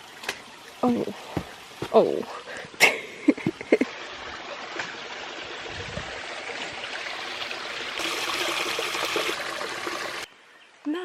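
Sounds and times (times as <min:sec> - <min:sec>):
creek water running: 0:00.0 - 0:10.3.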